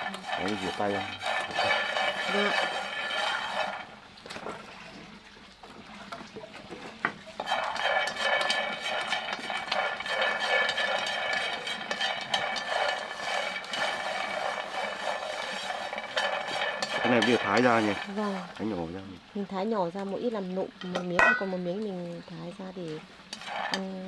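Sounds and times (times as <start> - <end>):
peanuts rattling in a pan: 0.0 - 4.9, 7.1 - 24.0.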